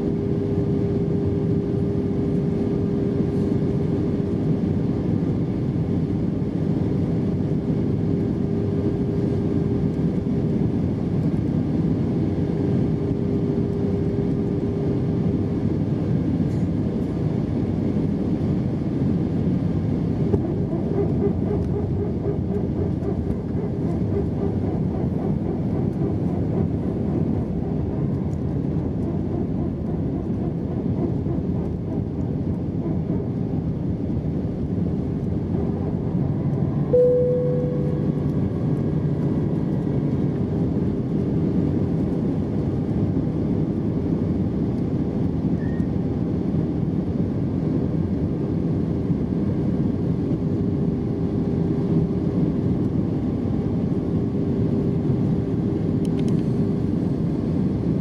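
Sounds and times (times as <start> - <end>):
aircraft engine and airflow noise: 0.0 - 58.0
steady hum: 0.0 - 58.0.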